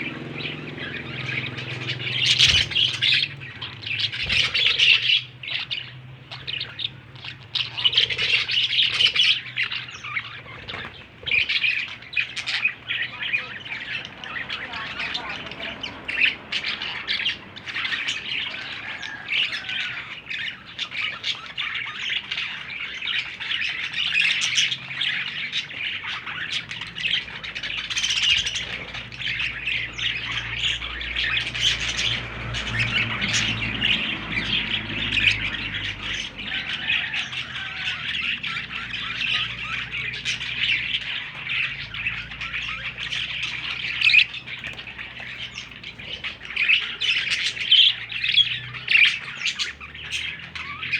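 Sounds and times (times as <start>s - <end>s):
baby budgerigars chirping: 0.0s - 50.9s.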